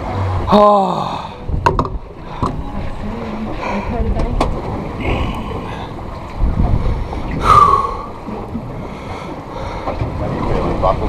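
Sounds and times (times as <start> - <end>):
choppy sea: 0.0 - 11.0
wind: 0.0 - 11.0.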